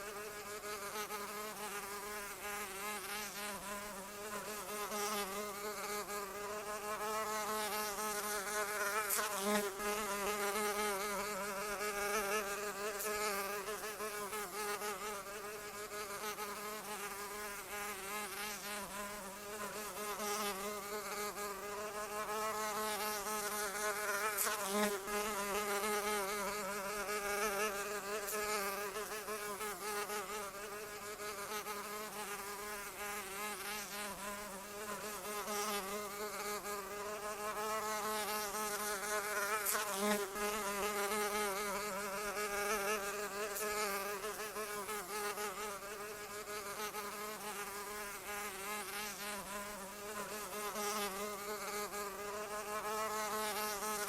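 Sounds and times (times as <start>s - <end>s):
flying insect buzzing: 0.0s - 54.0s.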